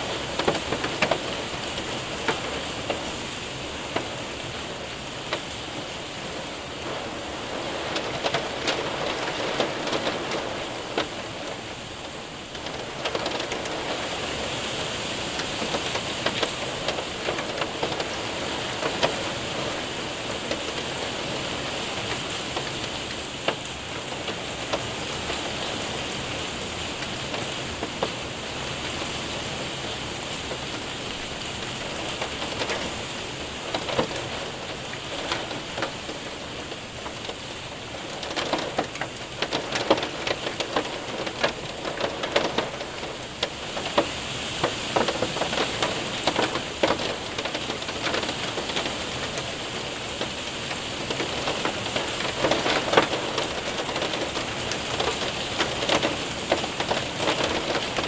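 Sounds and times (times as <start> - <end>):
hailstones ticking on window: 0.0 - 58.0
heavy rain hissing: 0.0 - 58.0.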